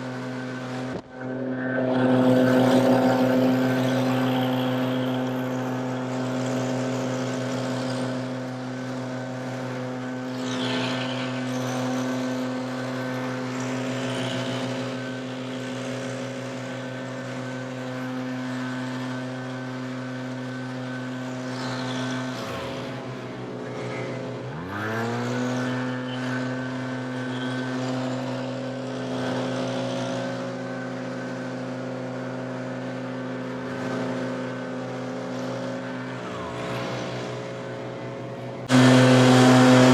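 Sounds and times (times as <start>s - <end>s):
leaf blower engine: 0.0s - 39.9s.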